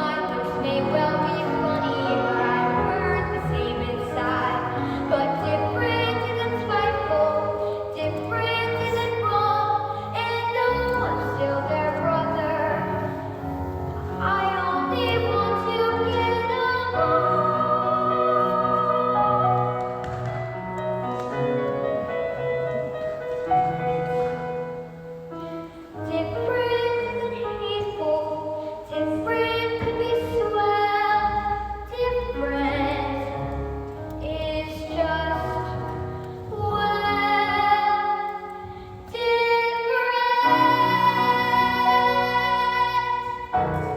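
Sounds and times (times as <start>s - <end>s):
instrumental accompaniment: 0.0s - 43.9s.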